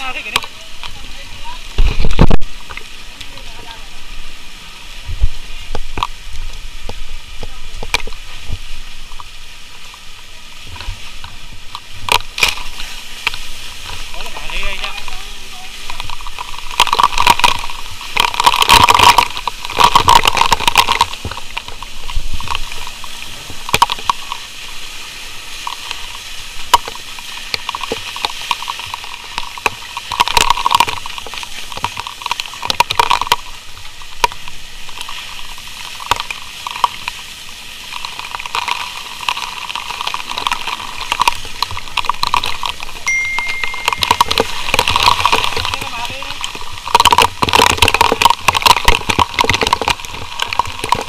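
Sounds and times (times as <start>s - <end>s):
burning wood cracking: 0.0s - 51.0s
fire hose spraying water: 0.0s - 51.0s.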